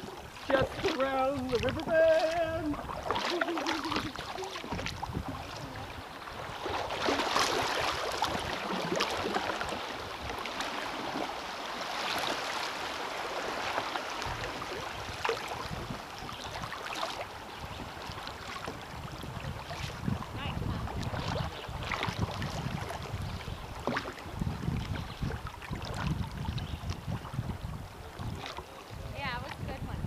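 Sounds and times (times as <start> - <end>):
paddle blades dipping into water: 0.0 - 29.0
river water rushing and splashing: 0.0 - 30.0.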